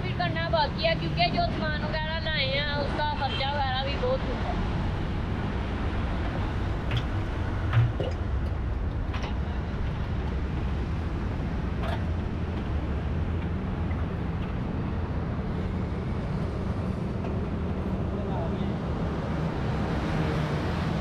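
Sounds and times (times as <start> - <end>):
vehicles passing on busy road: 0.0 - 21.0.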